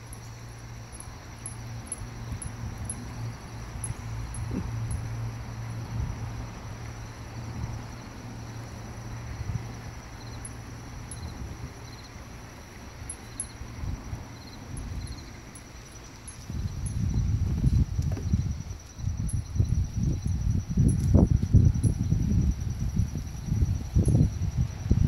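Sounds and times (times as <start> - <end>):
insects chirping in trills: 0.0 - 25.0
low steady rumble: 0.0 - 25.0.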